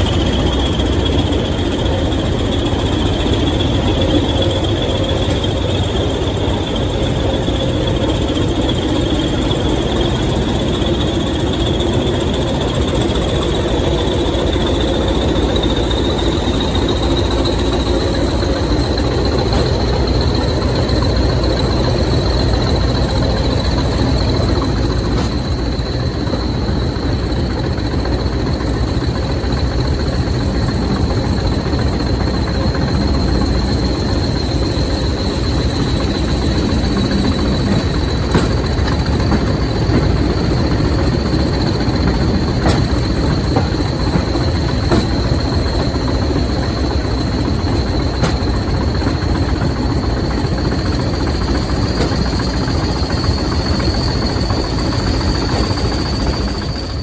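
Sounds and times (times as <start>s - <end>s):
high-pitched whine: 0.0s - 57.0s
train engine and rail rumble: 0.0s - 57.0s.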